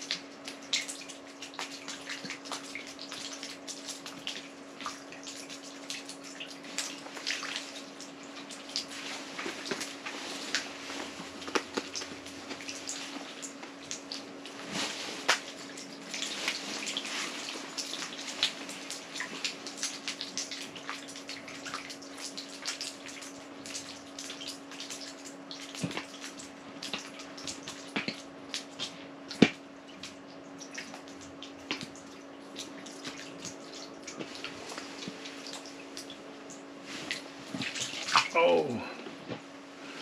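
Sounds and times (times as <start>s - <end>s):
water dripping and splashing: 0.0s - 38.8s.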